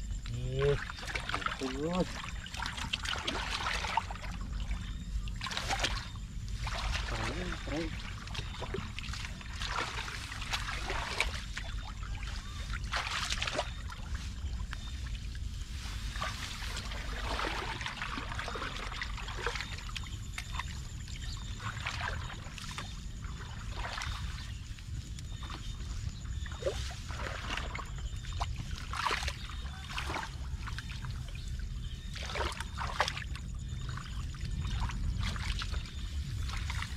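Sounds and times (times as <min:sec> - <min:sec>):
steady low rumble: 0:00.0 - 0:36.9
water splashing and trickling: 0:00.0 - 0:36.9.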